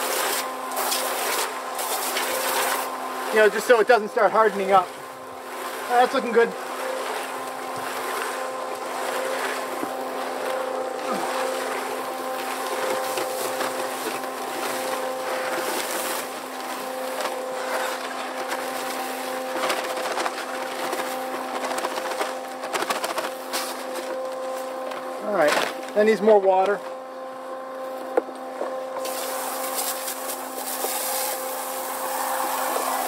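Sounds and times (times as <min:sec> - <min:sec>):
wet concrete churning and sloshing: 0:00.0 - 0:26.9, 0:29.0 - 0:33.0
concrete mixer motor hum: 0:00.0 - 0:33.0.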